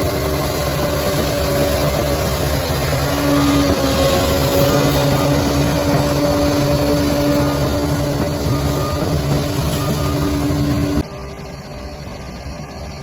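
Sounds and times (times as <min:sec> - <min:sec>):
bulldozer diesel engine running: 0:00.0 - 0:13.0
droning whine: 0:00.0 - 0:13.0.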